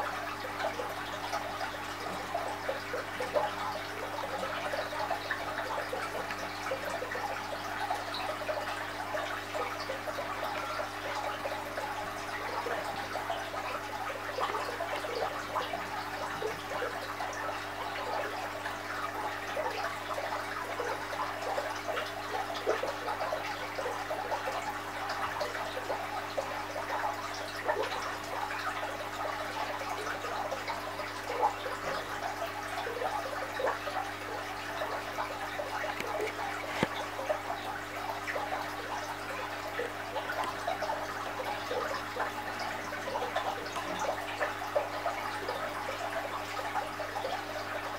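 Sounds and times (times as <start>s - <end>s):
pump motor hum: 0.0s - 47.9s
water trickling and bubbling: 0.0s - 47.9s.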